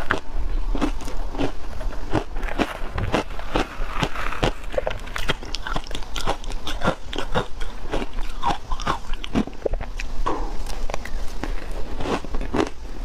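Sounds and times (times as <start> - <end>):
crunching and chewing ice: 0.0 - 12.9.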